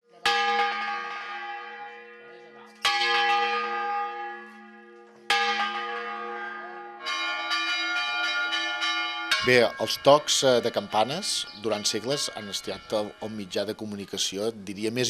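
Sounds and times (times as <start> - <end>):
church bell ringing: 0.1 - 15.0.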